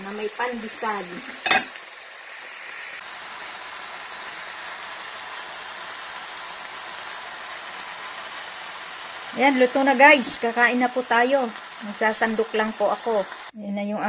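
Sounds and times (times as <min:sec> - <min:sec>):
noodles sizzling in a skillet: 0:00.0 - 0:13.6.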